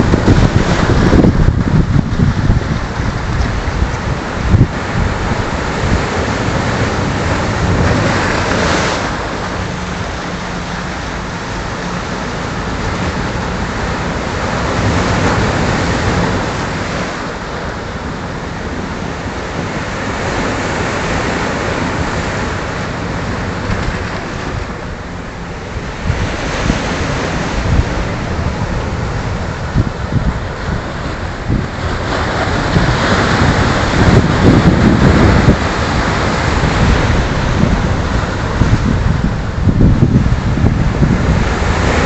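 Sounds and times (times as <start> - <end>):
surf breaking over boulders: 0.0 - 42.0
wind rumbling on microphone: 0.0 - 42.0.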